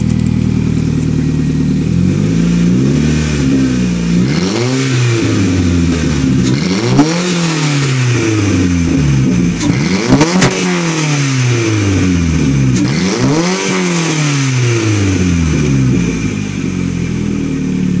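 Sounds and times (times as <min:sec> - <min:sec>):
exhaust cracks: 0:00.0 - 0:17.0
unmuffled engine revving: 0:00.0 - 0:18.0.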